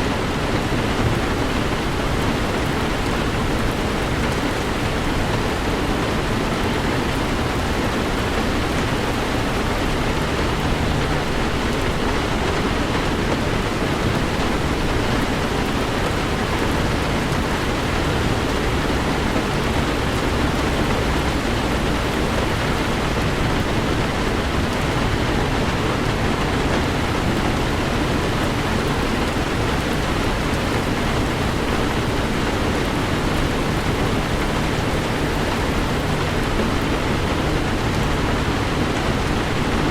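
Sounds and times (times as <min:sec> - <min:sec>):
heavy rain drumming on car: 0:00.0 - 0:39.9.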